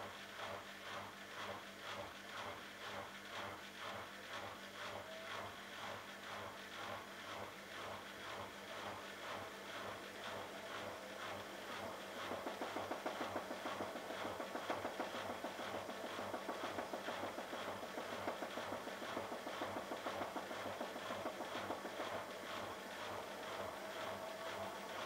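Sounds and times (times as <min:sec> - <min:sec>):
washing machine fast patter: 0:00.0 - 0:25.0.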